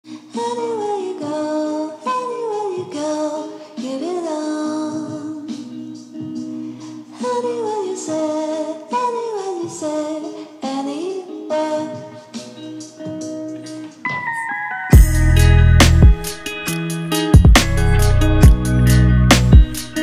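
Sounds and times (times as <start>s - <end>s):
background music melody: 0.1s - 20.0s.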